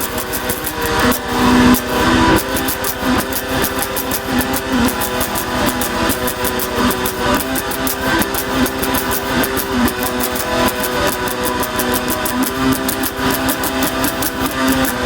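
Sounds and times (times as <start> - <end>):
droning guitar-like tones: 0.0 - 15.0
fast drum and bass beat: 0.0 - 15.0.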